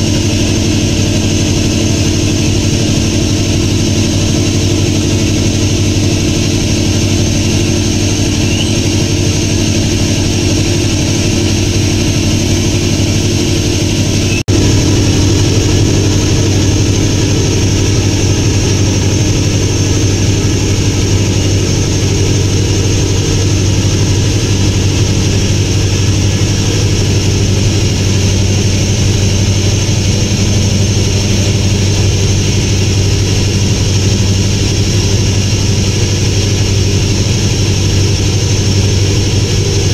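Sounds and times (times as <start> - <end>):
ship engine droning: 0.0 - 39.9.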